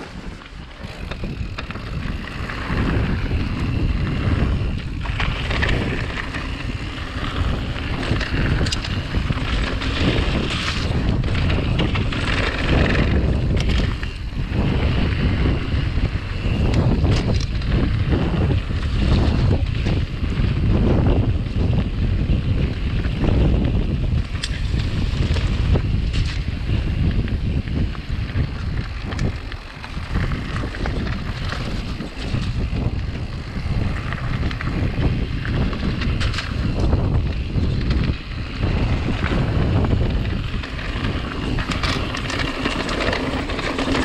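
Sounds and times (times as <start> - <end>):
bike rattling over stones: 0.0 - 44.0
tyres rolling on gravel: 0.0 - 44.0
wind buffeting microphone: 0.0 - 44.0.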